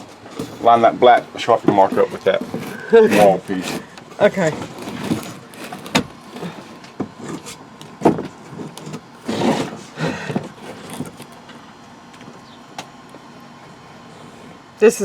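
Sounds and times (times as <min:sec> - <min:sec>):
plywood scraping: 0:00.0 - 0:11.6, 0:13.7 - 0:14.7.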